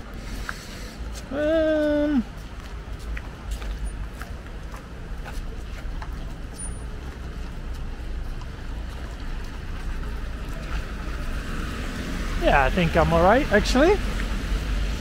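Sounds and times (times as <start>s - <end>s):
passing cars and tyres rumble: 0.0s - 15.0s
vehicle approaching: 0.0s - 15.0s.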